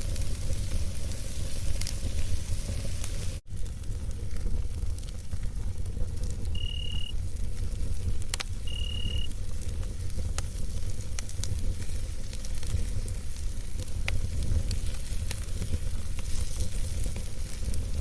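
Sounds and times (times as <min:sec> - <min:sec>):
burning wood crackling and popping: 0:00.0 - 0:18.0
campfire low rumble: 0:00.0 - 0:18.0.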